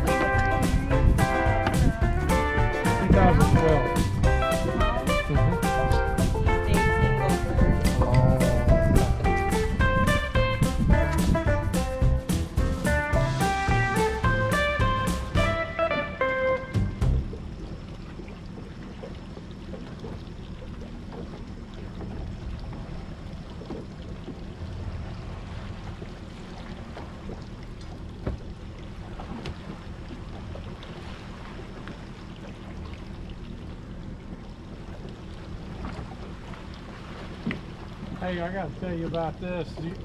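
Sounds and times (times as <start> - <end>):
boat motor humming: 0.0 - 40.0
water noise: 0.0 - 40.0
wind: 0.0 - 40.0.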